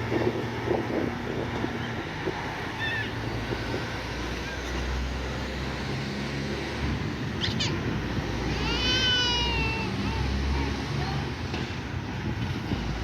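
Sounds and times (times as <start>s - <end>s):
diesel trucks rumbling: 0.0s - 13.0s.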